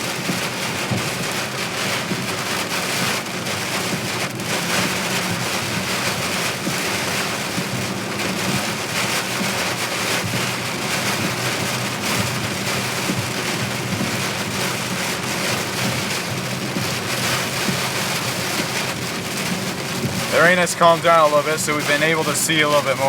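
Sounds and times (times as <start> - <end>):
heavy rain on a car: 0.0 - 23.0
low car hum: 3.8 - 23.0.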